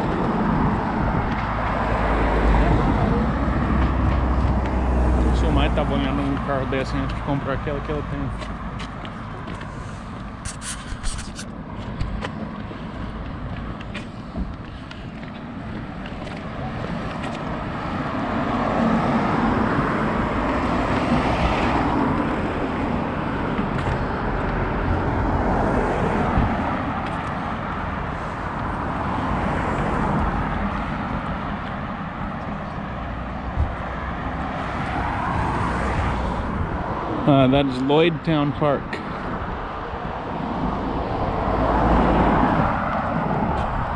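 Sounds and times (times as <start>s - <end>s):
cars passing by: 0.0s - 43.9s.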